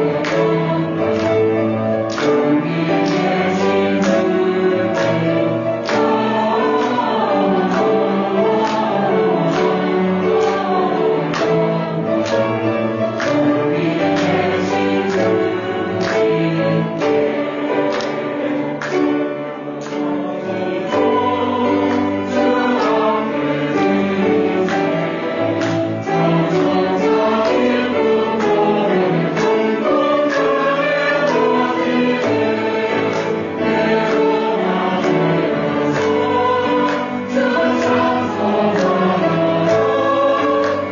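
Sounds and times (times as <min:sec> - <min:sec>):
church choir singing a hymn: 0:00.0 - 0:40.9
instrumental accompaniment with beat: 0:00.0 - 0:40.9.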